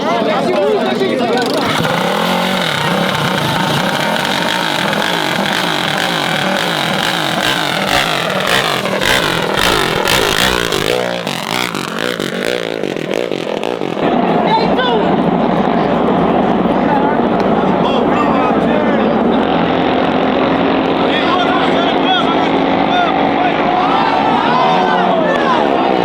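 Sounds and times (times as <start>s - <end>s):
mini bike engines revving: 0.0s - 26.0s.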